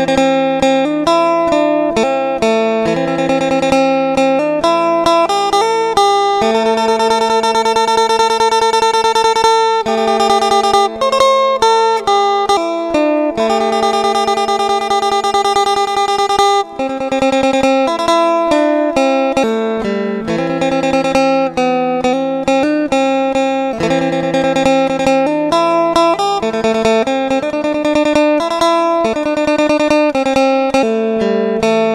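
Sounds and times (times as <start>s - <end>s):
plucked string instrument melody: 0.0s - 31.9s.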